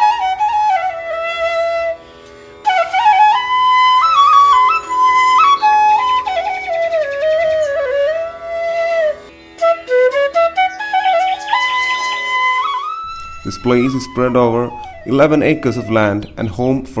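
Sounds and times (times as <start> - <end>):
flute melody: 0.0 - 17.0.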